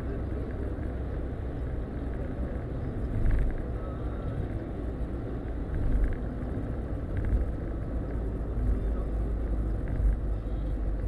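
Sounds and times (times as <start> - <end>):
car road noise inside cabin: 0.0 - 11.0.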